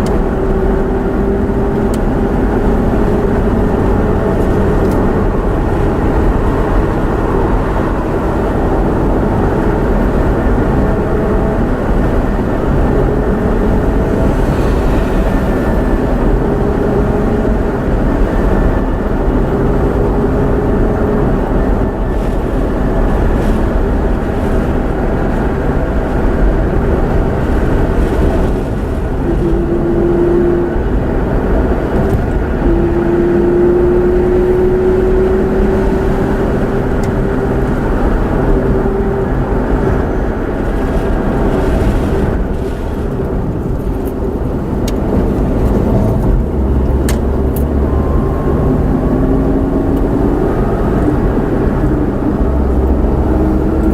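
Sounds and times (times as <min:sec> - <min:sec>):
car engine: 0:00.0 - 0:53.9
road noise: 0:00.0 - 0:53.9.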